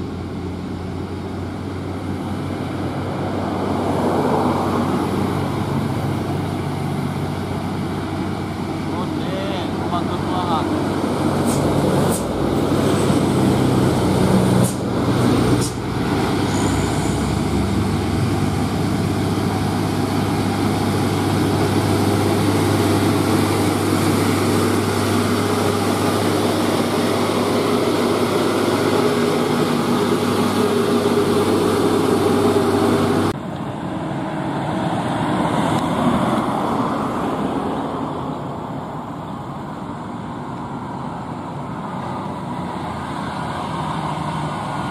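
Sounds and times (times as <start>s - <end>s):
diesel truck engine drone: 0.0s - 44.9s.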